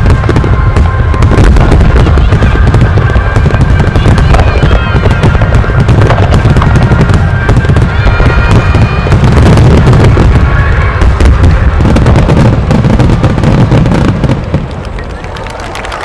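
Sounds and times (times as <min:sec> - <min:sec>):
fireworks bursting: 0:00.0 - 0:16.0
whistling fireworks: 0:00.0 - 0:16.0.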